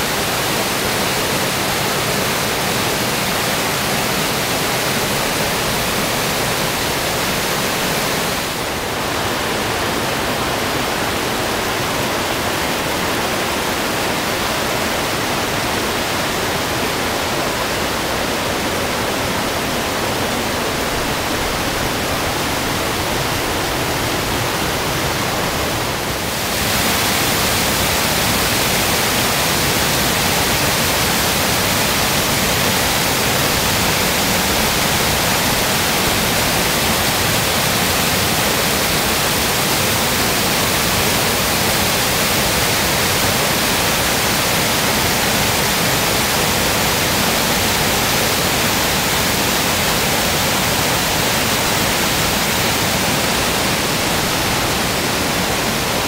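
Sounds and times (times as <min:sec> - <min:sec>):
river rushing over rapids: 0:00.0 - 0:56.0.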